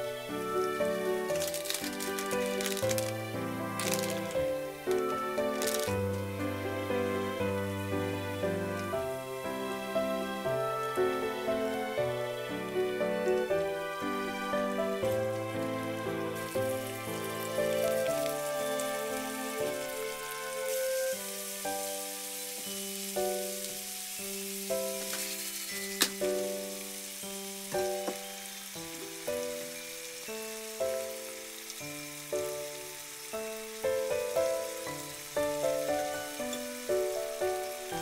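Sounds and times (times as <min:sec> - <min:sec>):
food sizzling in a frying pan: 0:00.0 - 0:38.0
gentle background music: 0:00.0 - 0:38.0.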